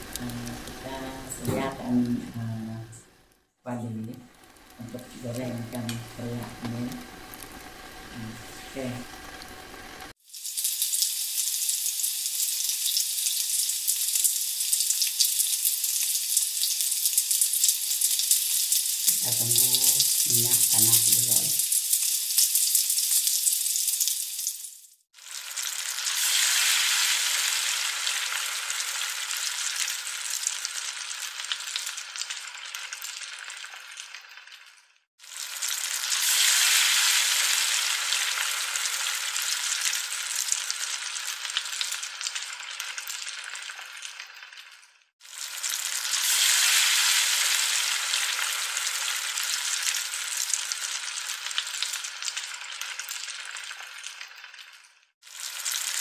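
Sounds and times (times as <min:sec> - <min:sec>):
vegetables deep-frying in oil: 0:00.0 - 0:03.0, 0:03.7 - 0:56.0.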